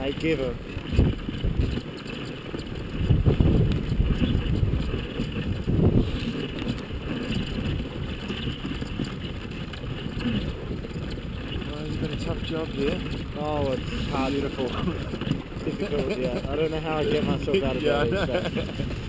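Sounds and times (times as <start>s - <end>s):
sled runners scraping on snow: 0.0s - 19.0s
wind on microphone: 0.0s - 19.0s.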